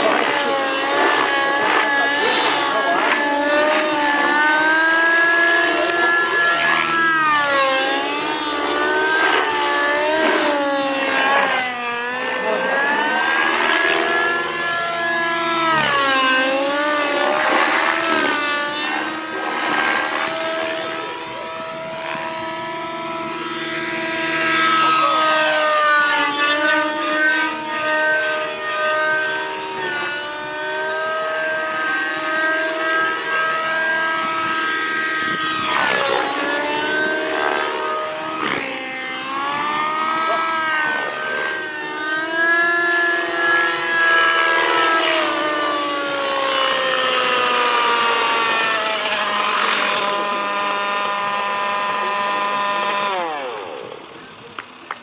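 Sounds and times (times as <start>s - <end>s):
model helicopter rotor whine: 0.0s - 55.0s.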